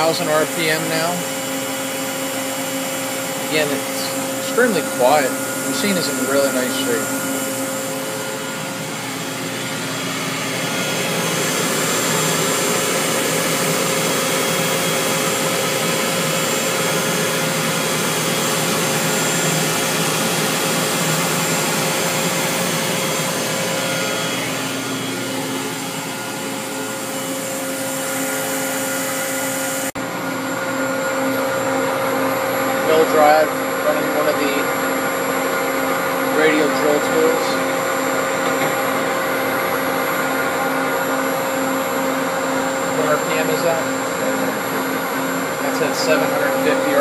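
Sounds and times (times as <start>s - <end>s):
lathe spindle whirring: 0.0s - 47.0s.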